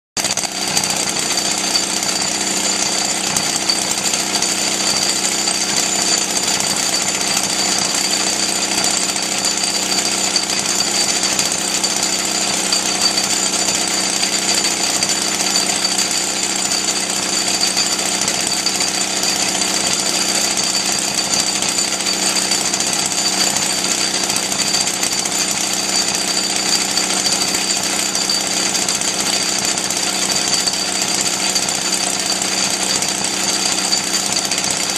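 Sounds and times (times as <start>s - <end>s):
two-stroke engine running: 0.2s - 34.9s.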